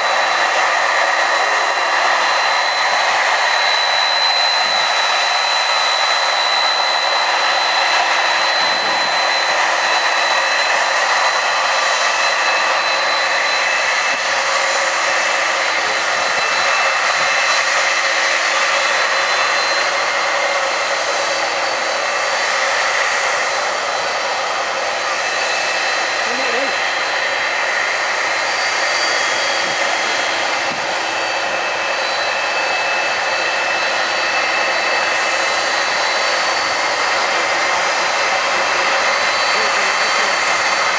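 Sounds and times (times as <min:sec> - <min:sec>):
high jet engine whine: 0:00.0 - 0:40.9
jet engines rushing: 0:00.0 - 0:40.9.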